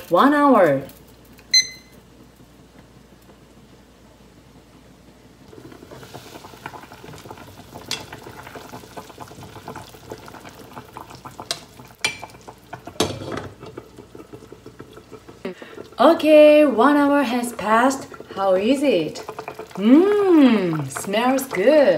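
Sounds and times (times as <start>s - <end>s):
pot simmering and bubbling: 0.0s - 21.9s.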